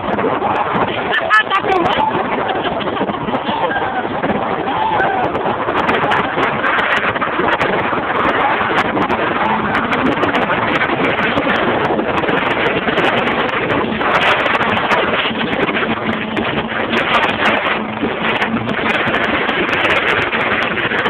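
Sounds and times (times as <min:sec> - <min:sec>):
microphone crackles: 0:00.0 - 0:21.0
motorboat running: 0:00.0 - 0:21.0
wind buffeting microphone: 0:00.0 - 0:21.0.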